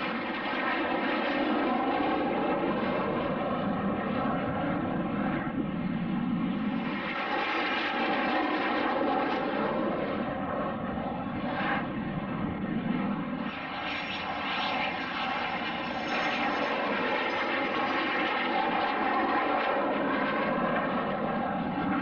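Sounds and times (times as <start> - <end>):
airplane engines droning: 0.0 - 22.0.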